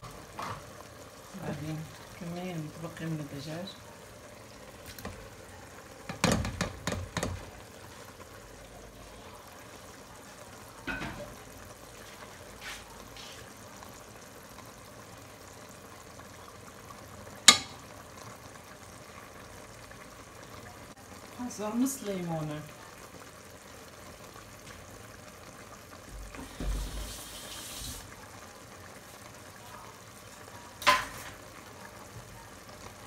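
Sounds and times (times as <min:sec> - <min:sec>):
faint steady hiss: 0:00.0 - 0:33.0.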